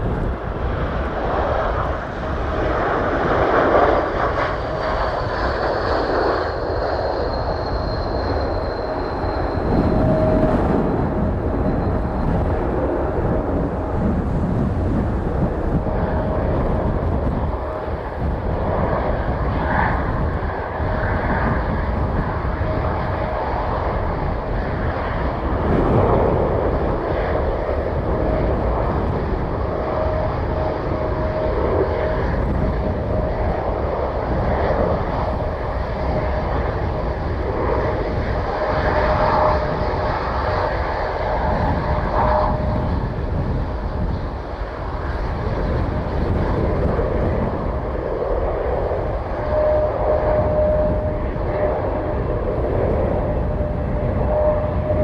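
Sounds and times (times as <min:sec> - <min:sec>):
aircraft engines roaring: 0:00.0 - 0:55.0
thin whine: 0:03.5 - 0:55.0.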